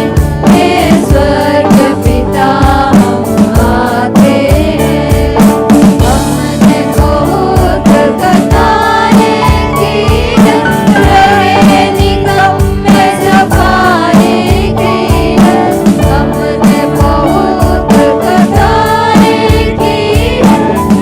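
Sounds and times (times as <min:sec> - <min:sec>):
band with drum beat: 0:00.0 - 0:21.0
voices singing together: 0:00.0 - 0:21.0.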